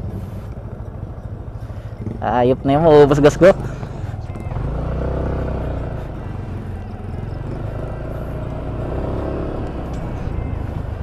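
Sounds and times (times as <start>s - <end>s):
scooter engine accelerating: 0.0s - 11.0s.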